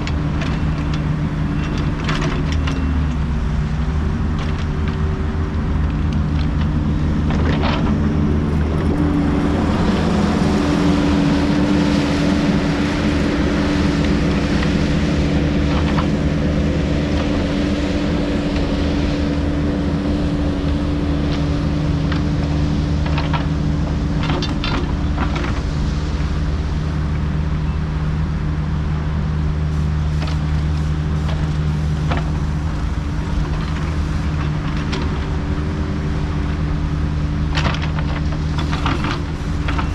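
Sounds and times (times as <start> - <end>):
excavator diesel engine running: 0.0 - 39.9
hydraulic whine: 0.0 - 39.9.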